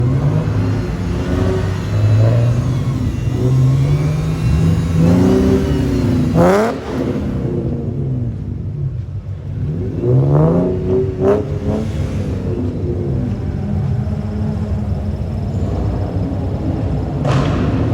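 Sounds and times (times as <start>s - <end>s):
car engine idling and revving: 0.0s - 17.9s.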